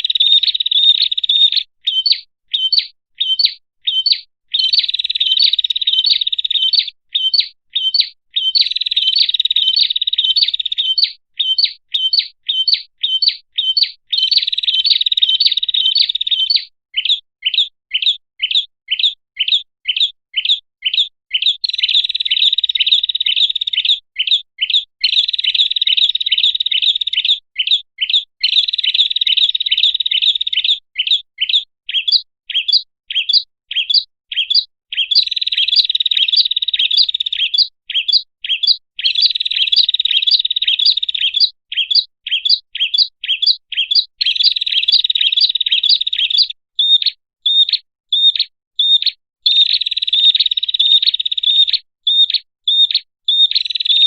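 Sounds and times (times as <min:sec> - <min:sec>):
bird chirping and trilling: 0:00.0 - 0:54.0.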